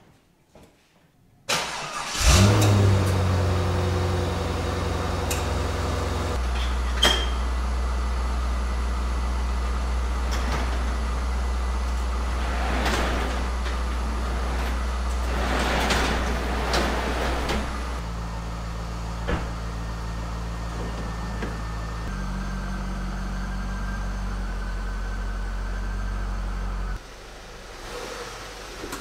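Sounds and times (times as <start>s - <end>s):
car engine starting and idling: 1.5s - 29.0s.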